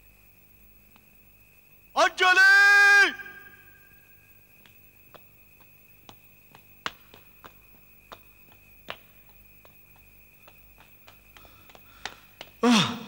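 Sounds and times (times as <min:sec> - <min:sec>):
faint high-pitched hum: 0:00.0 - 0:13.0.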